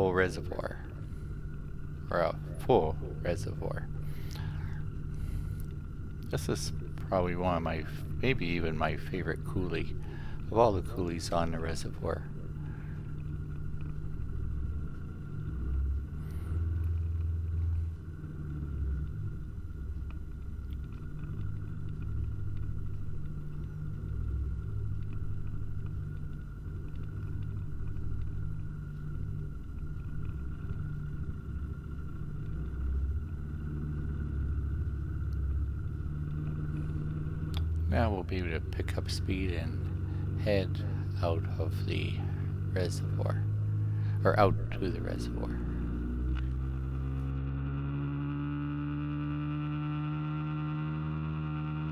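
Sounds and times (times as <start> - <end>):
boat motor rumbling: 0.0 - 51.9.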